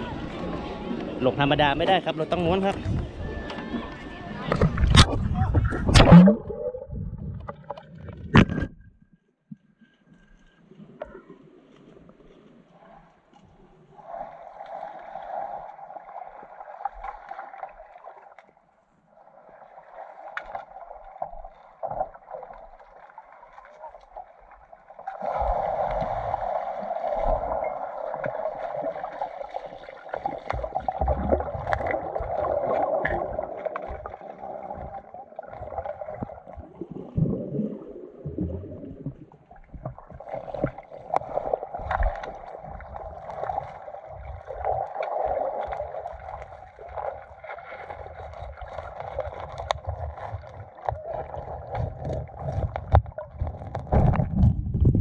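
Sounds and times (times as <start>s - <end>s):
muffled water sloshing and gurgling: 0.0s - 55.0s.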